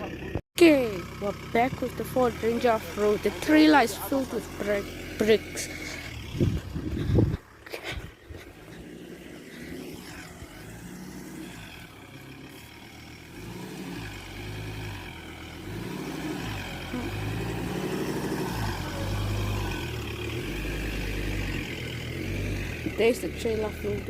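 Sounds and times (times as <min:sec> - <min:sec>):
diesel engine pulling: 0:00.0 - 0:24.0.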